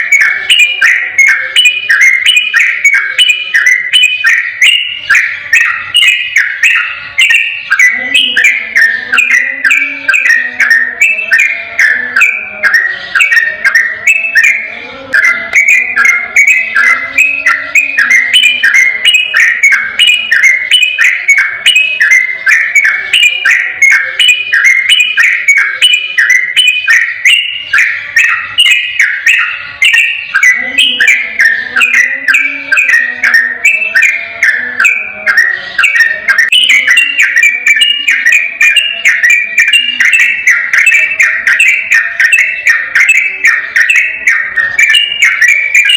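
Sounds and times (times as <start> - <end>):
bird singing rapid chirps: 0.0 - 45.9.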